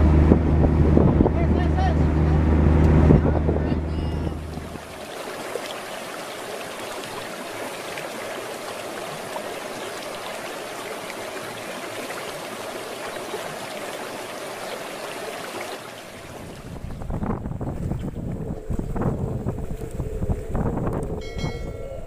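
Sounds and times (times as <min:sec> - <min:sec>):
stream water running: 0:00.0 - 0:22.0.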